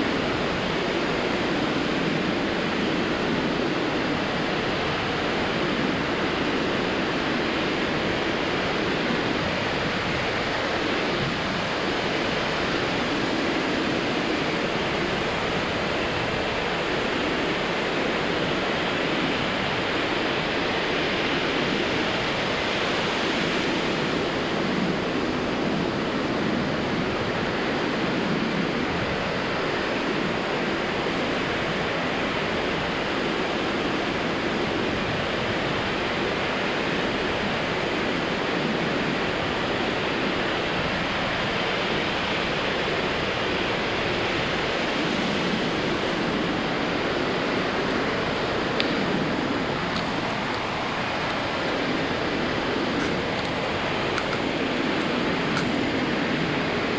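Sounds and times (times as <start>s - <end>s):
surf breaking on a beach: 0.0s - 56.9s.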